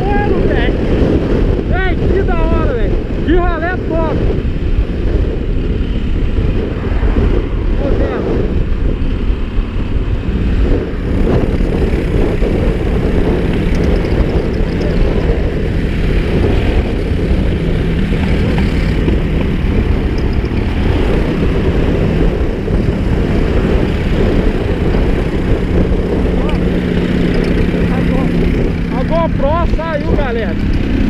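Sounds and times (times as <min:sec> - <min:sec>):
wind buffeting on microphone: 0:00.0 - 0:31.0
motorcycle engine running: 0:02.9 - 0:31.0.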